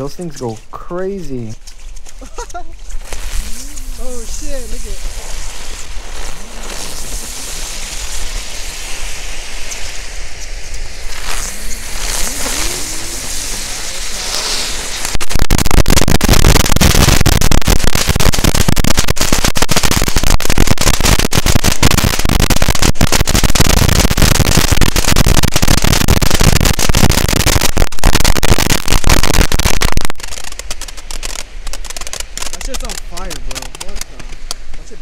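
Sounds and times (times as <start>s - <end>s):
firework cake crackling bangs: 0.0s - 35.0s.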